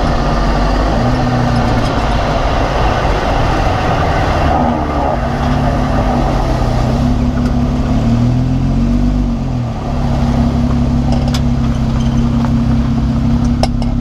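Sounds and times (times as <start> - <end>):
drivetrain whine: 0.0 - 14.0
vehicle running noise: 0.0 - 14.0.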